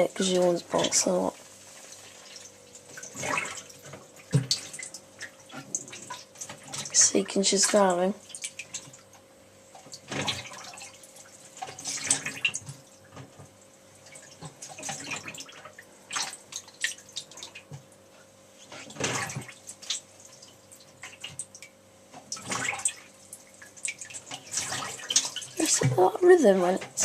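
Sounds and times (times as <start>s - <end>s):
faint steady hum: 0.0s - 27.0s
water and clothes sloshing: 0.0s - 27.0s.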